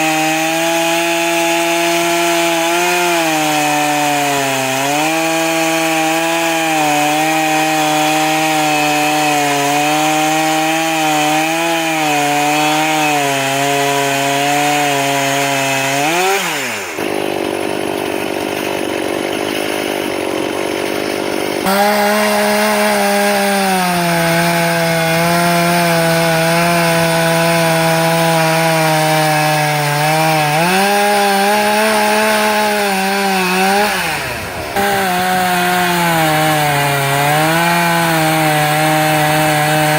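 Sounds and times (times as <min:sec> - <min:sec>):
rough noisy sawing: 0:00.0 - 0:39.9
sawmill machine hum: 0:00.0 - 0:39.9.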